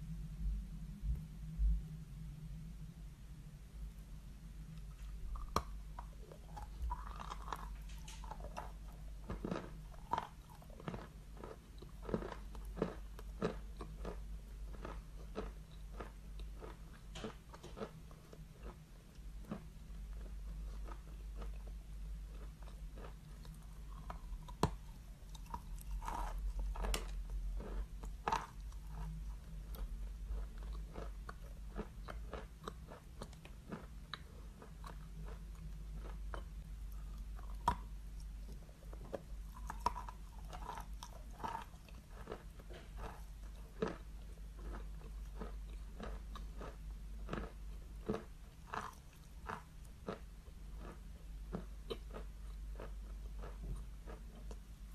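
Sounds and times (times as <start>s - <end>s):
chalk crunching while chewed: 4.7s - 54.7s.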